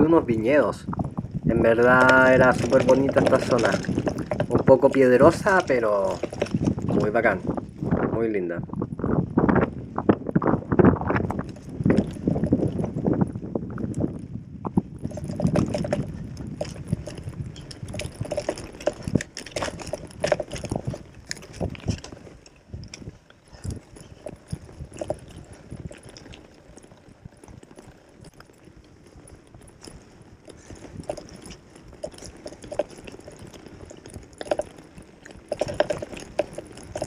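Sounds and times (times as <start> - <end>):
bike rattling on stony track: 0.0 - 37.0.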